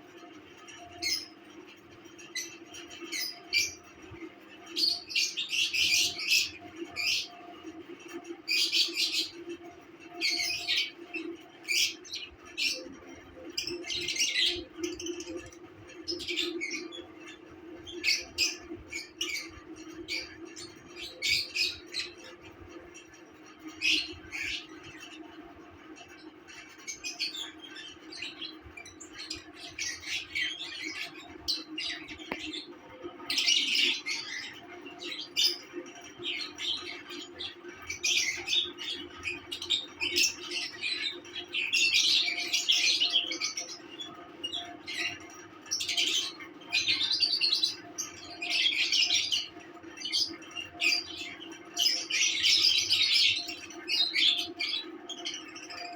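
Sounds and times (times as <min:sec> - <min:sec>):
birds chirping and squawking: 0:00.1 - 0:55.9.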